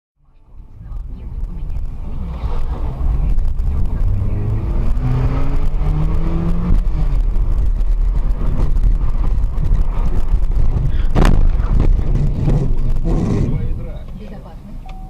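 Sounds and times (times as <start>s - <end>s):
road rumble: 0.2s - 15.0s
car engine accelerating: 0.3s - 14.9s.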